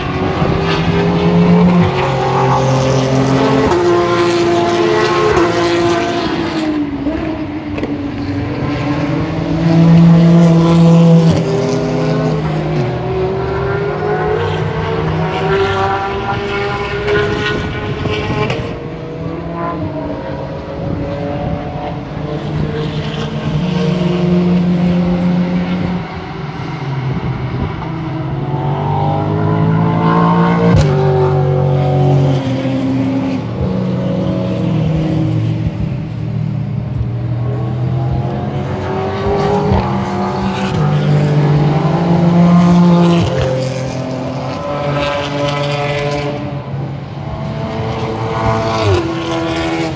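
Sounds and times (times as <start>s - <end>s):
race car engines passing: 0.0s - 49.9s.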